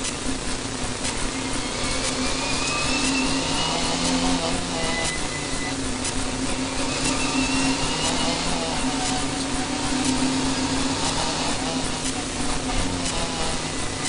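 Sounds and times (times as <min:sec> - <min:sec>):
car engine running hard: 0:00.0 - 0:14.0
high engine whine: 0:00.0 - 0:14.0.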